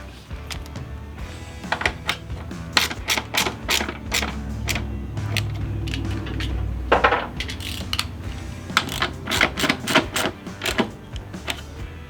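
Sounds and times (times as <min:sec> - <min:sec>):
metallic tool clinks and clicks: 0:01.5 - 0:11.9.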